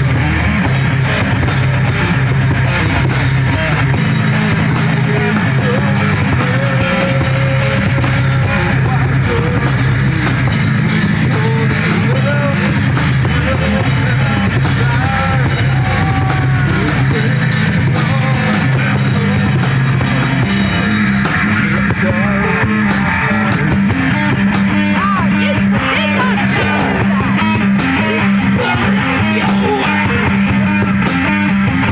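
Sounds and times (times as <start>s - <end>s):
electric guitars: 0.0s - 31.9s
heavy metal band playing: 0.0s - 31.9s.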